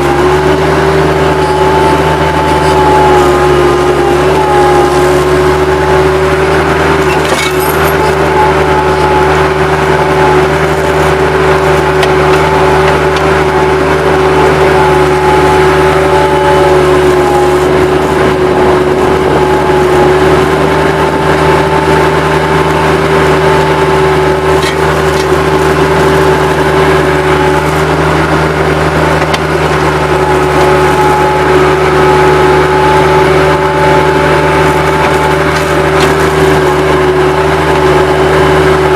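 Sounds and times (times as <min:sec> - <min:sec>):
diesel engine at high throttle: 0:00.0 - 0:38.9.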